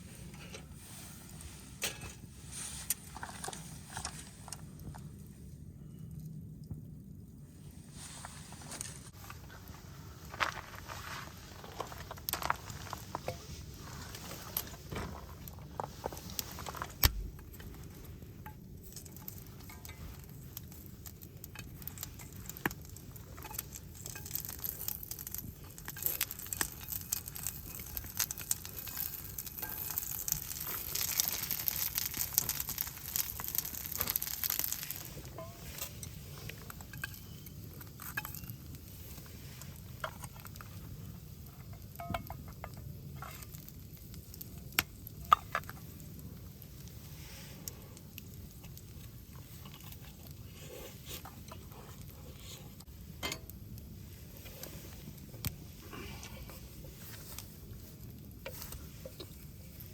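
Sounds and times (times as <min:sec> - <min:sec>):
campfire crackling and popping: 0:09.1 - 0:59.9.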